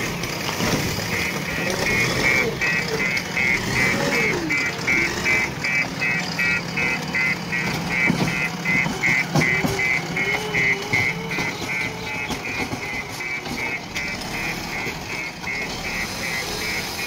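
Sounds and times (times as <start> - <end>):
diesel engine working: 0.0 - 17.0
rapid electronic beeping: 0.0 - 17.0.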